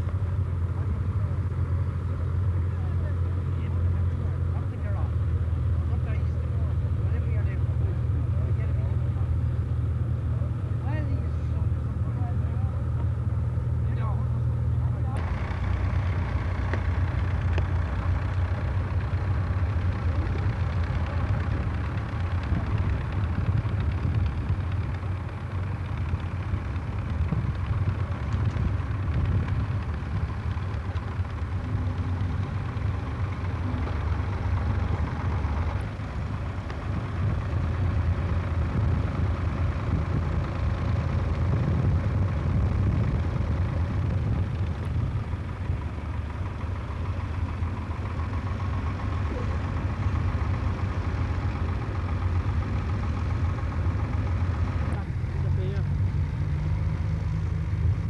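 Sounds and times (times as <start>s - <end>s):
tractor engine rumbling: 0.0s - 58.0s.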